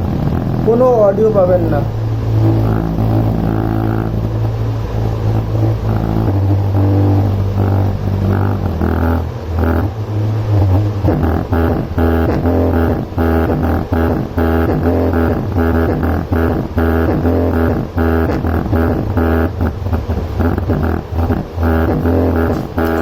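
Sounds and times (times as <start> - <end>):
deep bass notes: 0.0 - 23.0
plucked rhythmic line: 0.0 - 23.0.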